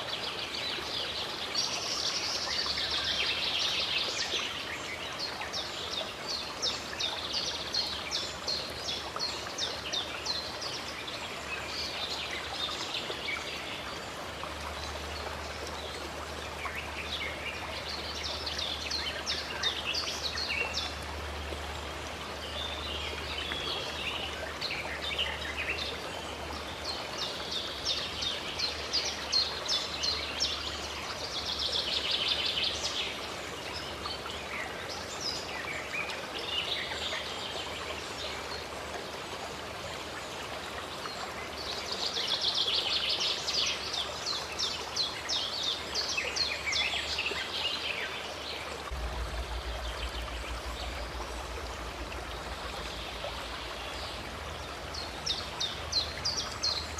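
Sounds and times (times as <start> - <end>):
songbirds singing: 0.0 - 38.8, 39.4 - 56.9
stream rushing: 0.0 - 56.9.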